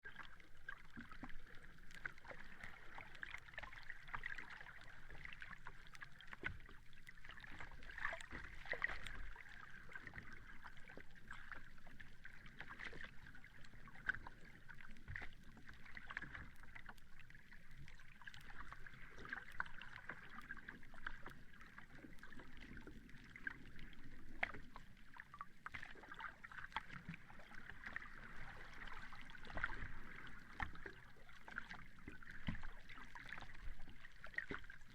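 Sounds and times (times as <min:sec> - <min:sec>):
small waves washing on shore: 0:00.0 - 0:34.9
water splashes: 0:00.0 - 0:34.9.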